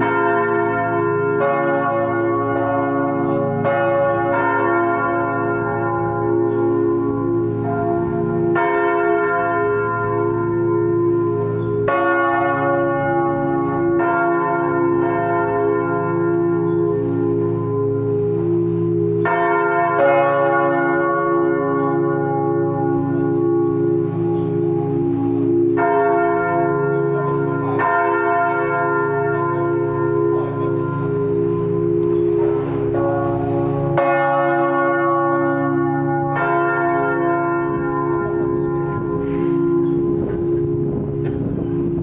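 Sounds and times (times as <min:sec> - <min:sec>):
church bells pealing: 0:00.0 - 0:42.0.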